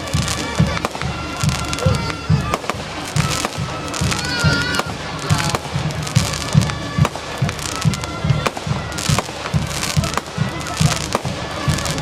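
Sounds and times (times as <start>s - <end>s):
deep fireworks thumps: 0.0s - 12.0s
fireworks bangs and crackles: 0.0s - 12.0s.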